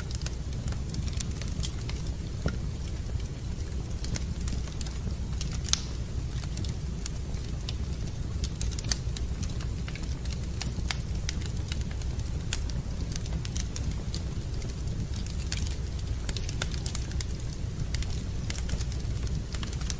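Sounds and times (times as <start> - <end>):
low steady fire rumble: 0.0 - 19.9
wood fire crackling and popping: 0.0 - 19.9.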